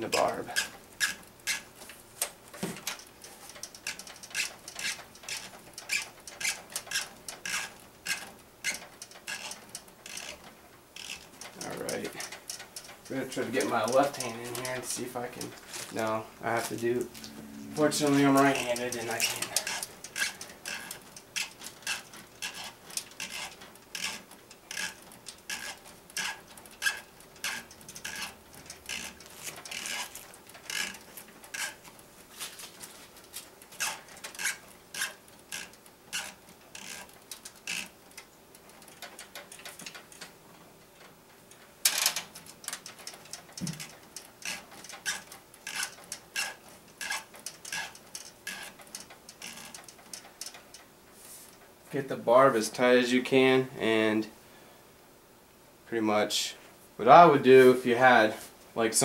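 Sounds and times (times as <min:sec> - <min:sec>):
fitting ticking and rubbing: 0:00.0 - 0:53.4.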